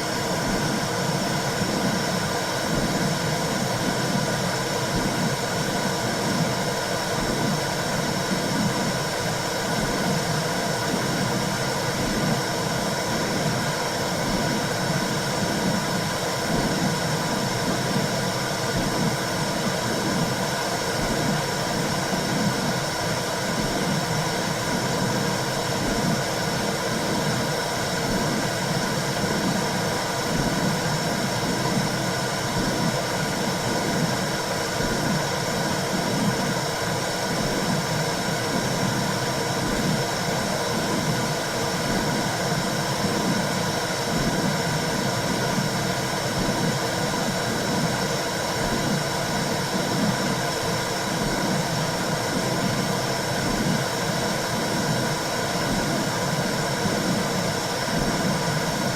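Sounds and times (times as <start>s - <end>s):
whooshing womb noise with pulse: 0.0s - 58.9s.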